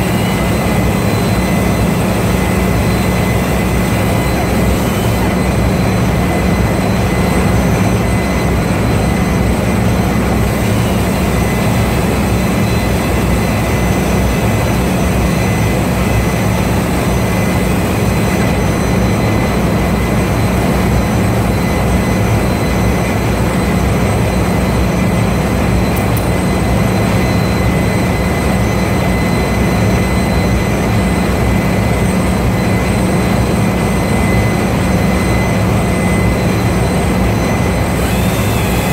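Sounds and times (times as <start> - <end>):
machine humming with high whine: 0.0 - 38.9.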